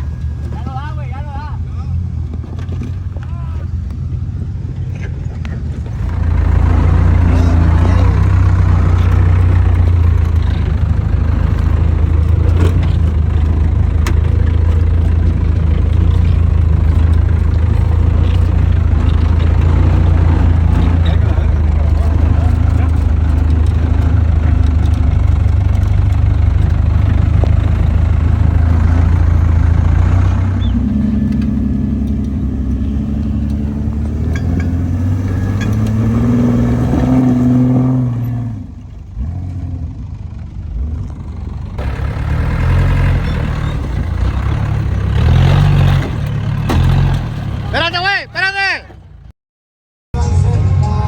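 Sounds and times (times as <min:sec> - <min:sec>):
vehicle engine revving: 0:00.0 - 0:49.3.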